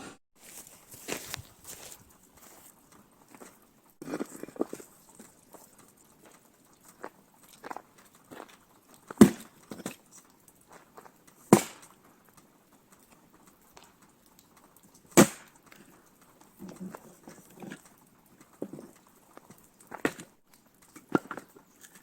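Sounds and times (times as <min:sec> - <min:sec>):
soft patter: 0:00.4 - 0:22.0.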